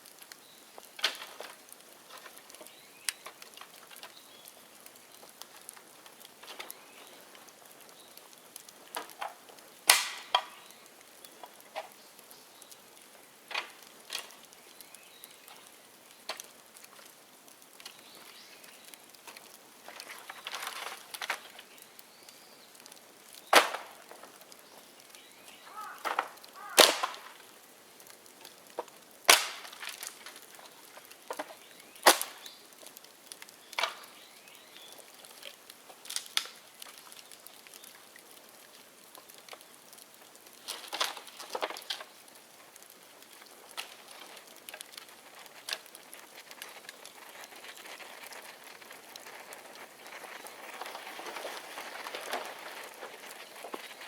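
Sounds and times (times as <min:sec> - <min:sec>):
bamboo popping in fire: 0:00.0 - 0:54.0
bonfire crackling: 0:00.0 - 0:54.0.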